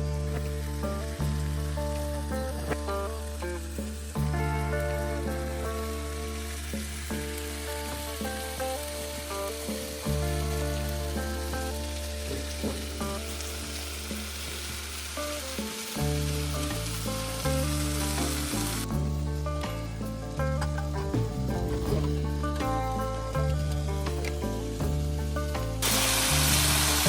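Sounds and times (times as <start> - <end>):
background music: 0.0 - 27.0
food sizzling in a pan: 0.0 - 27.0.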